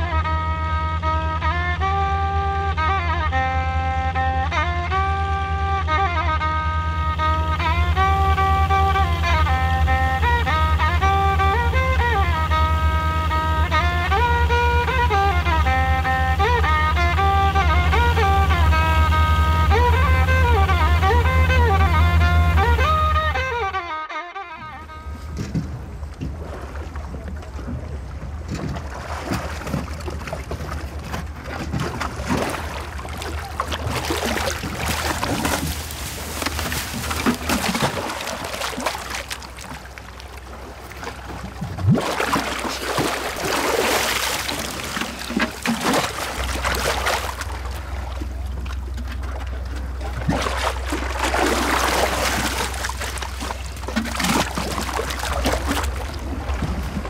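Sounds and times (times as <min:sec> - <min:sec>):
steady low hum: 0:00.0 - 0:57.0
water splashing and sloshing: 0:04.5 - 0:57.0.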